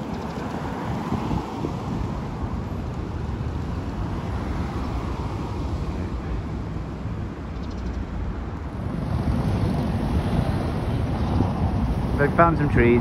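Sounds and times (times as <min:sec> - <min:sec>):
road traffic rumble: 0:00.0 - 0:13.0
wind buffeting microphone: 0:00.0 - 0:13.0.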